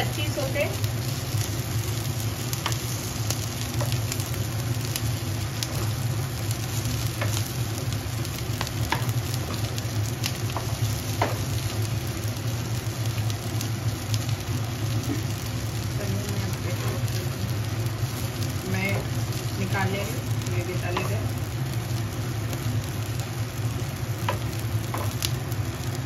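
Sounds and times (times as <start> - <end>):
low steady hum: 0.0 - 26.0
oil sizzling with pops: 0.0 - 26.0.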